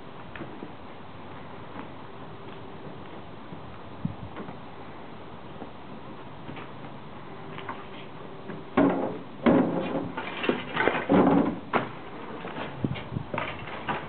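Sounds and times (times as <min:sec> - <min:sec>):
footsteps crunching over rubble: 0:00.2 - 0:08.7, 0:09.5 - 0:14.0.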